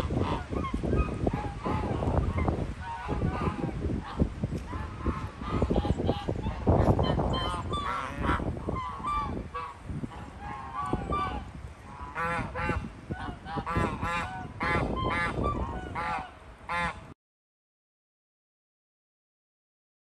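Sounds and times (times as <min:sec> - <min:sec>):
geese honking: 0:00.0 - 0:17.1.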